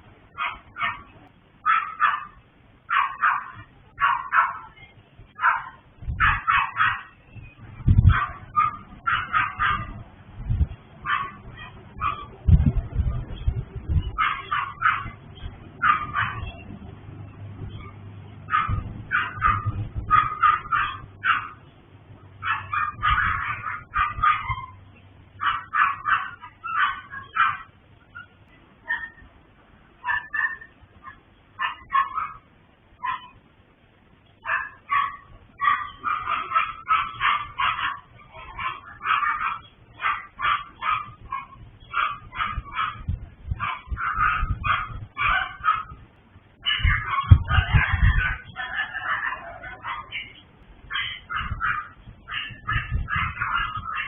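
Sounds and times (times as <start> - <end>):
small dogs barking: 0.3 - 10.1, 11.0 - 16.8, 17.6 - 21.7, 22.3 - 29.3, 30.0 - 33.5, 34.4 - 46.0, 46.6 - 54.0.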